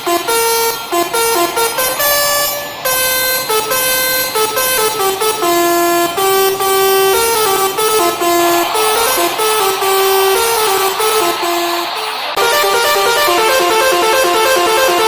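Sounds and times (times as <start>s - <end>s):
multi-tone air horn melody: 0.0s - 15.0s.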